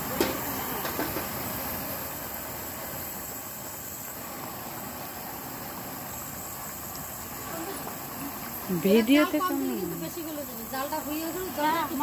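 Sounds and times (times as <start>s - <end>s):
curry boiling hard: 0.0s - 12.0s.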